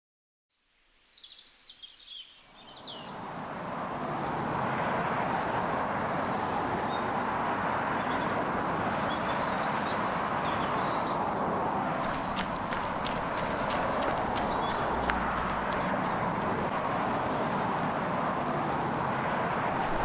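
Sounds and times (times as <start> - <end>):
road traffic noise: 2.6 - 20.0.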